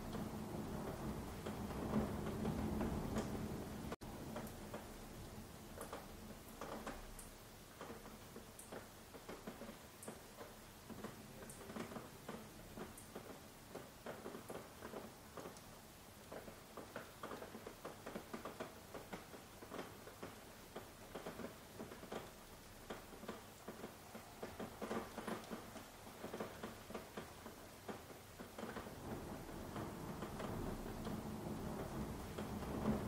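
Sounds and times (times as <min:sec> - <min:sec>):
faint steady hiss: 0:00.0 - 0:33.0
raindrops pattering: 0:00.0 - 0:33.0.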